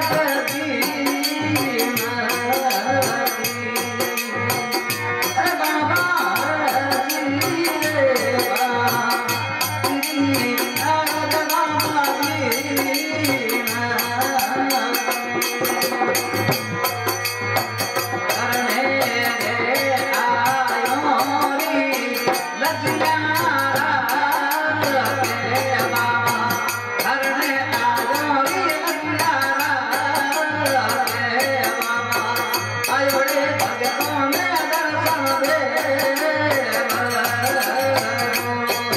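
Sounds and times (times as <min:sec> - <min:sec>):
man singing into a microphone: 0:00.0 - 0:38.9.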